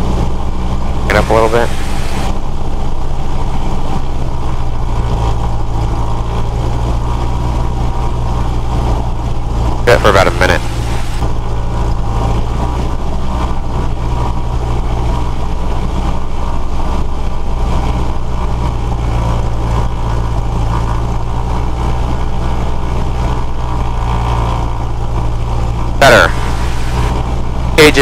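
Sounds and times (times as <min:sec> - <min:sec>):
aircraft engine running: 0:00.0 - 0:28.0.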